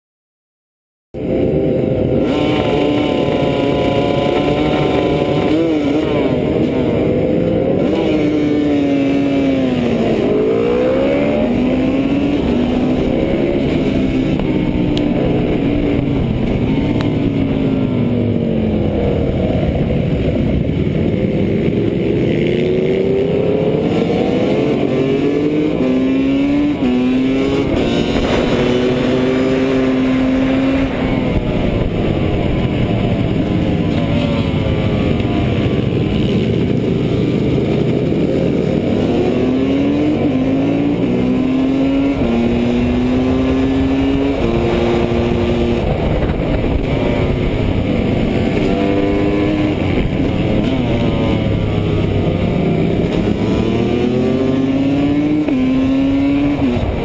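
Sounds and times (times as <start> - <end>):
motorcycle engine revving: 1.2 - 57.0.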